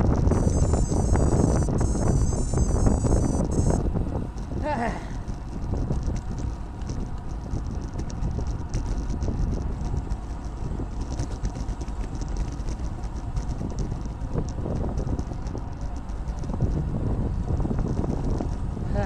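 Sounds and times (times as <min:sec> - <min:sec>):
tyres rolling on rough asphalt: 0:00.0 - 0:19.0
wind buffeting microphone: 0:00.0 - 0:19.0
faint rapid ticking: 0:00.1 - 0:16.8.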